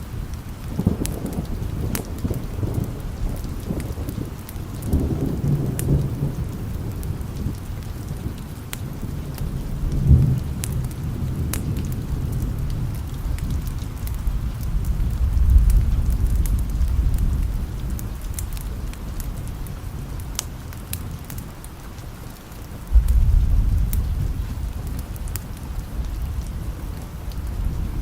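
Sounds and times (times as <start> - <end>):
low rolling thunder: 0.0 - 22.0, 22.6 - 28.0
steady rain: 0.0 - 28.0
sharp ticks and pops: 0.3 - 5.0, 8.7 - 27.5.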